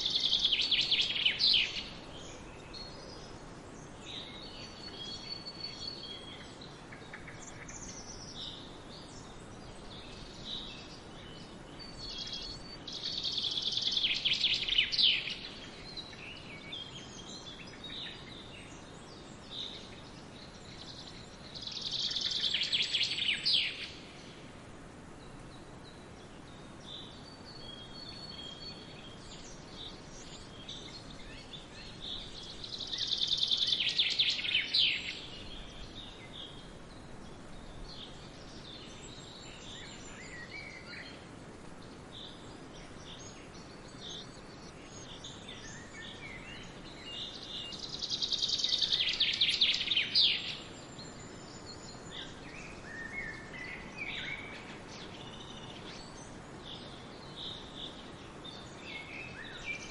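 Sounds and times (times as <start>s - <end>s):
birds chirping: 0.0s - 59.9s
faint background hiss: 0.0s - 59.9s.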